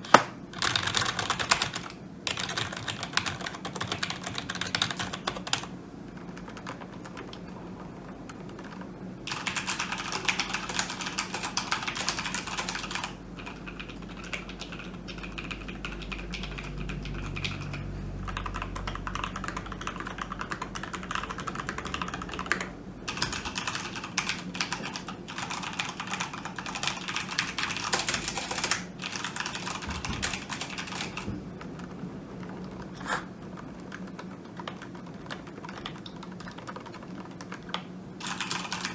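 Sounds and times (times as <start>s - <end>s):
low background hum: 0.0s - 38.9s.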